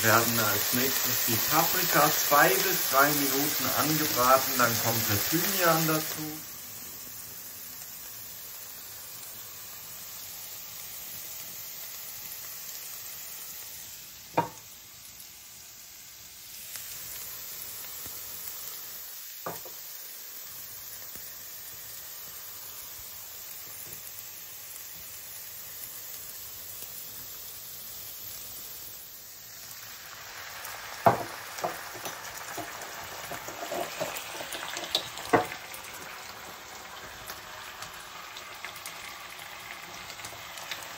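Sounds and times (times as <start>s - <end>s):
peppers sizzling in a pan: 0.0s - 40.9s.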